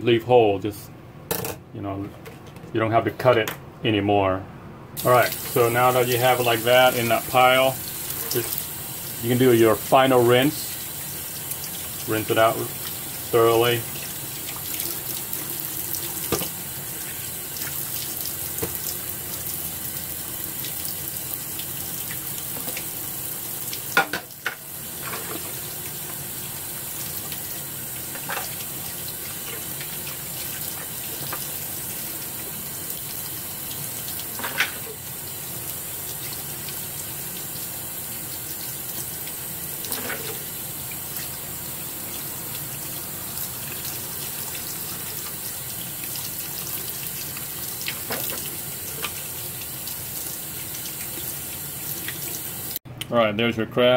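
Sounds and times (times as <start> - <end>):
faucet running into sink: 5.0 - 52.8.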